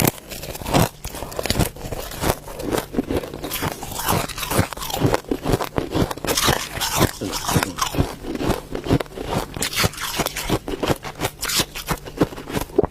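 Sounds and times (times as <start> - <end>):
ice crunching being chewed: 0.0 - 12.9.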